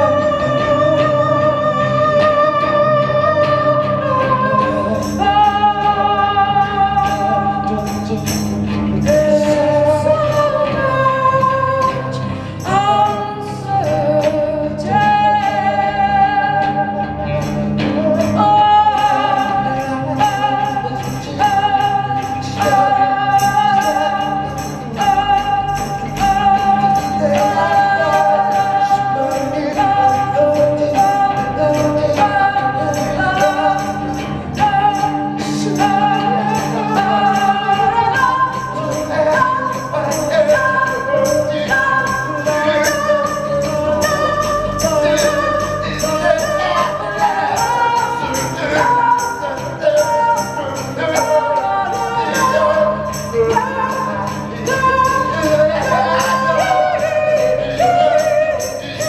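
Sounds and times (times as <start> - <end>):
voices singing: 0.0 - 59.0
steady percussive beat: 3.4 - 59.0.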